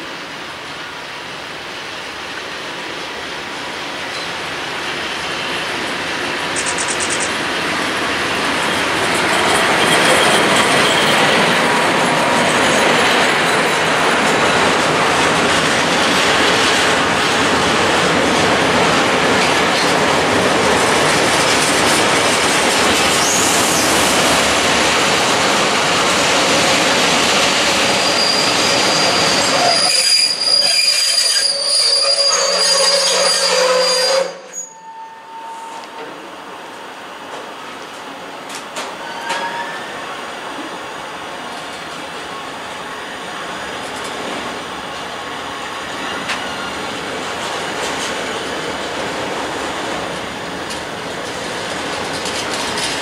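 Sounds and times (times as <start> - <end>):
freight train passing: 0.0 - 53.0.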